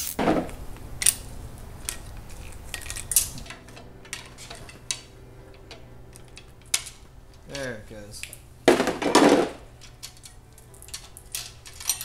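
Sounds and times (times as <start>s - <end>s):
metal chain clinking: 0.0s - 12.0s.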